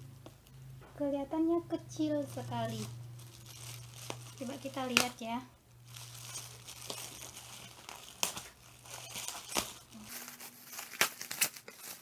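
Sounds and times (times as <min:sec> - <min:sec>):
packaging crinkling and rustling: 0:02.0 - 0:12.0.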